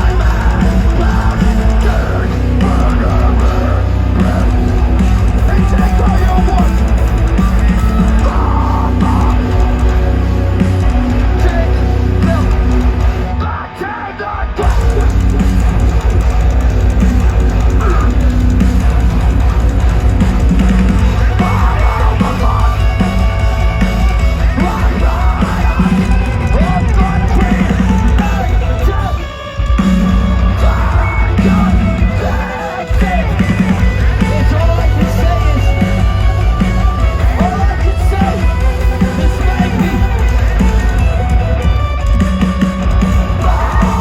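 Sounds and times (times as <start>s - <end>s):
live metal band playing: 0.0s - 44.0s
vocals: 0.0s - 44.0s.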